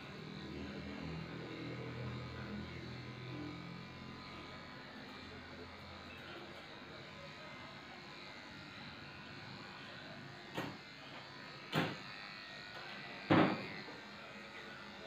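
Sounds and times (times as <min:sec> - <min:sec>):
electric clippers buzzing: 0:00.0 - 0:15.0.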